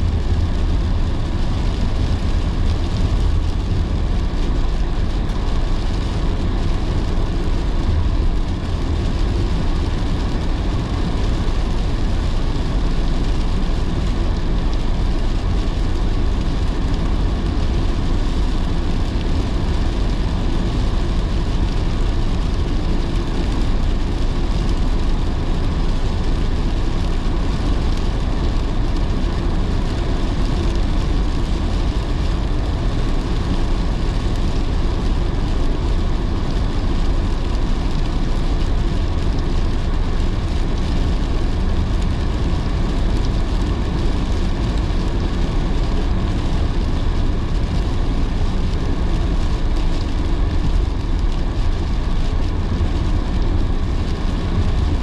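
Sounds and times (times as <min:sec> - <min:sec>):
car road and engine noise: 0:00.0 - 0:55.0
rain hissing on a car: 0:00.0 - 0:55.0.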